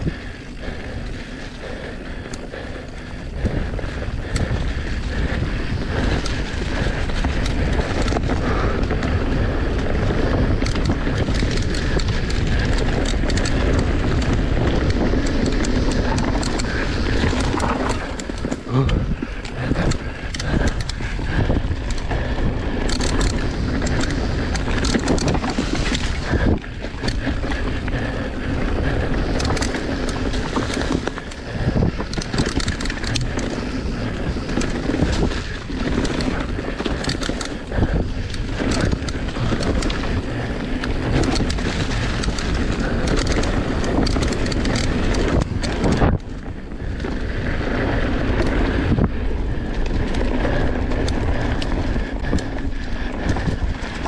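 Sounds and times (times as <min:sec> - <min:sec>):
bike rattling over bumps: 0:00.0 - 0:54.0
wind on microphone: 0:00.0 - 0:54.0
tyres rolling over leaves and dirt: 0:04.7 - 0:54.0.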